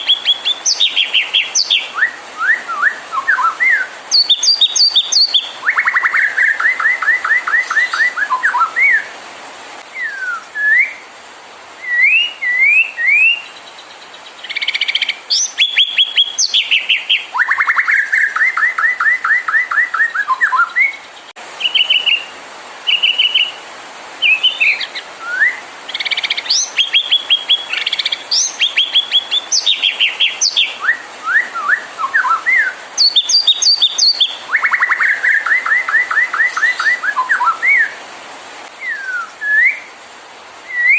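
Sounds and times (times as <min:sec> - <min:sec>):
bird singing trills and whistles: 0:00.0 - 0:09.1, 0:09.9 - 0:11.0, 0:11.8 - 0:22.3, 0:22.9 - 0:23.6, 0:24.2 - 0:38.0, 0:38.8 - 0:39.9, 0:40.7 - 0:40.9.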